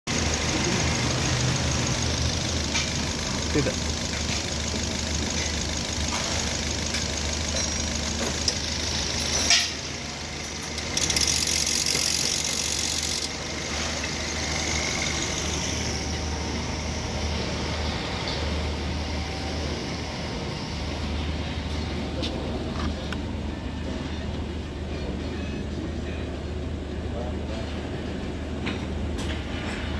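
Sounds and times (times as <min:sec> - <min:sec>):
car engine hum: 0:00.1 - 0:24.4.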